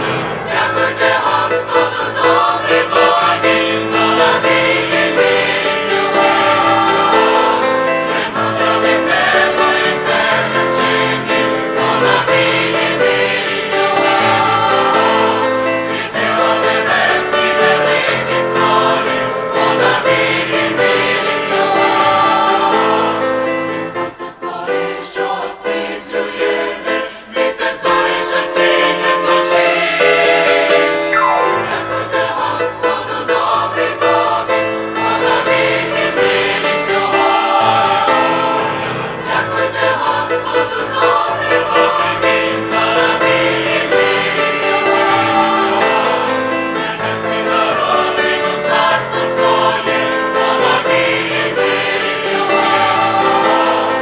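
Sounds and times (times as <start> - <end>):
mixed choir singing a hymn: 0.0 - 54.0.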